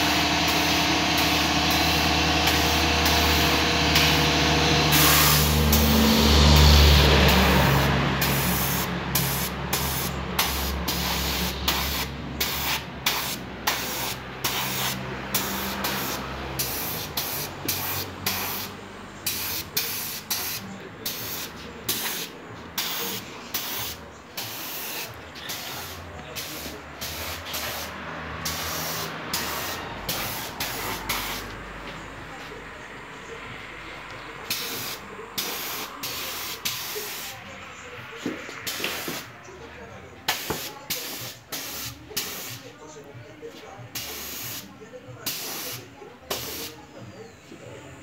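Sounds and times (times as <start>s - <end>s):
spray gun hissing in bursts: 0.0s - 31.5s, 34.5s - 37.4s, 38.6s - 39.3s, 40.3s - 42.6s, 43.9s - 46.8s.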